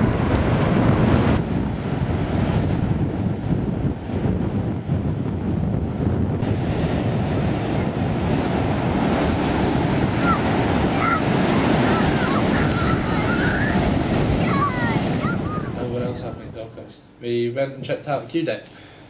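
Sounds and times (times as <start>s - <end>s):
wind buffeting microphone: 0.0s - 16.7s
ocean surf breaking: 0.0s - 16.8s.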